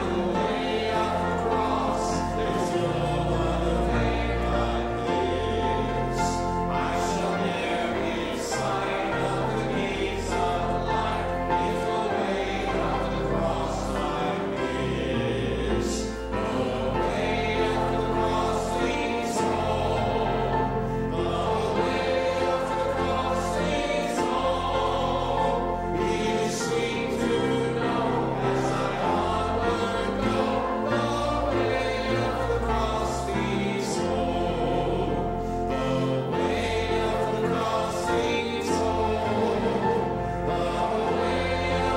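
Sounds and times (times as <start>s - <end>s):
church choir singing: 0.0s - 41.9s
instrumental accompaniment: 0.0s - 41.9s.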